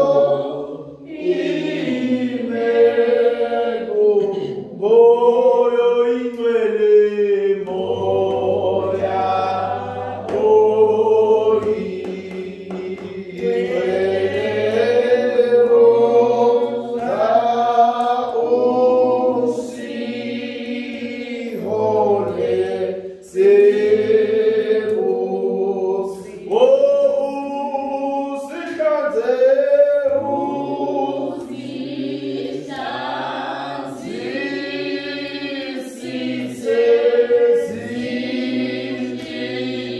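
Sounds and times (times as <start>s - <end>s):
congregation singing a hymn: 0.0s - 39.9s.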